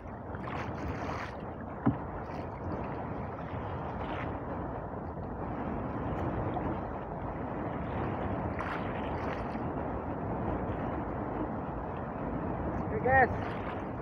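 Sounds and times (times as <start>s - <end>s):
water lapping against boat hull: 0.0s - 14.0s
wind on microphone: 0.0s - 14.0s.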